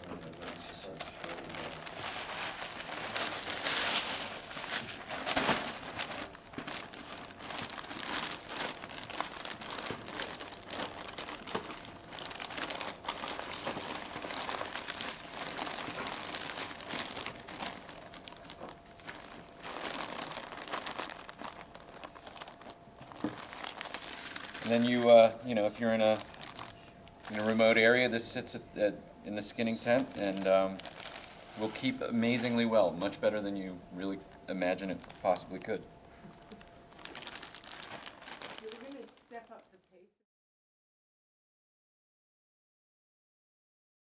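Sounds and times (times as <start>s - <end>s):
plastic bag crinkling: 0.0s - 28.2s, 29.4s - 40.1s.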